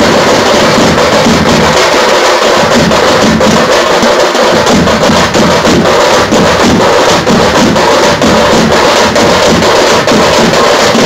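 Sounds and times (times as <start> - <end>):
bass drums: 0.0 - 11.0
frame drums beaten with sticks: 0.0 - 11.0.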